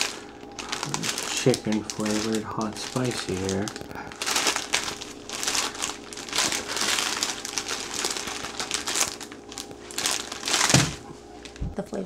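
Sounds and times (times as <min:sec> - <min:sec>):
plastic wrapper crinkling: 0:00.0 - 0:11.9.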